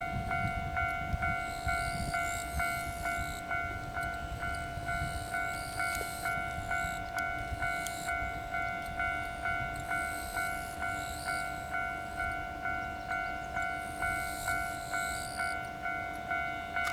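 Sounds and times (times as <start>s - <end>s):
level crossing warning bell: 0.0s - 16.9s.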